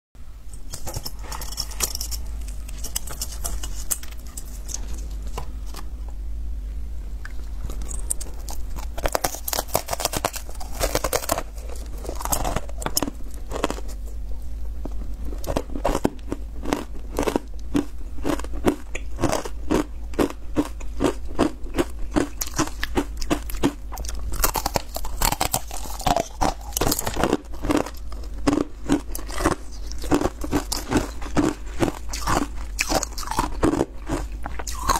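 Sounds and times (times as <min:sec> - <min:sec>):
ice being chewed: 0:00.6 - 0:05.9, 0:07.2 - 0:14.2, 0:14.8 - 0:34.9.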